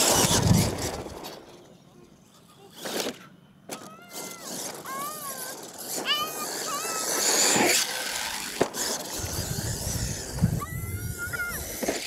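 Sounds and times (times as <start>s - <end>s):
toy truck motor and tyres rushing: 0.0s - 12.0s.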